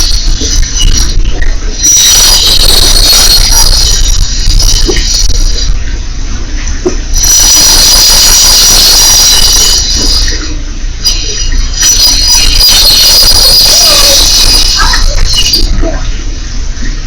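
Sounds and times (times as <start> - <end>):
high-pitched squealing tones: 0.0 - 5.9, 6.8 - 16.2
loud hiss: 0.0 - 5.9, 7.0 - 16.6.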